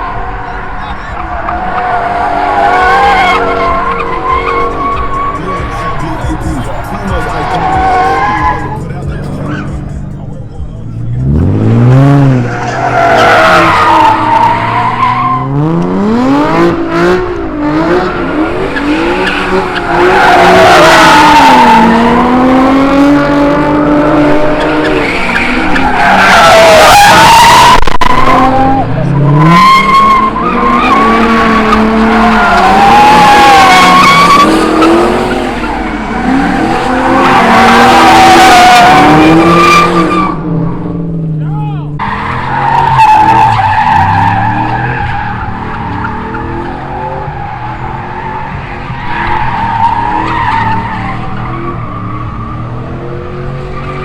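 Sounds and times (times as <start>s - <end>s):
tyres squealing and skidding: 0.0s - 40.7s, 41.4s - 54.0s
car engines revving: 0.0s - 54.0s.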